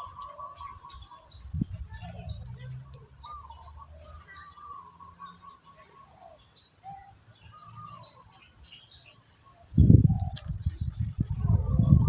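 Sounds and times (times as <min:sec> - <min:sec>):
birds chirping and warbling: 0:00.0 - 0:12.0.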